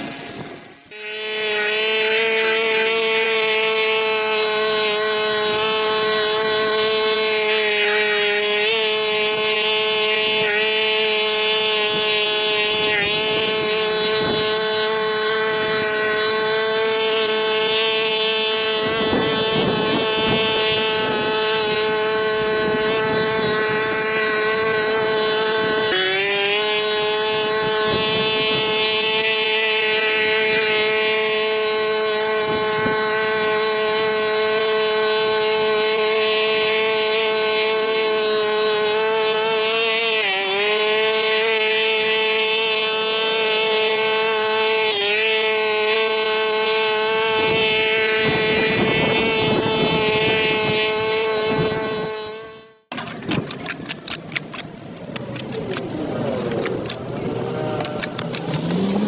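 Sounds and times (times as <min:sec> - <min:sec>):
motor whining: 0:00.0 - 0:59.0.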